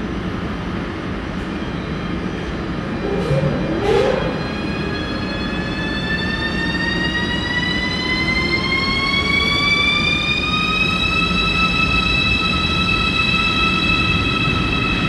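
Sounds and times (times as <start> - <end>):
train wheels rumbling: 0.5 - 15.0.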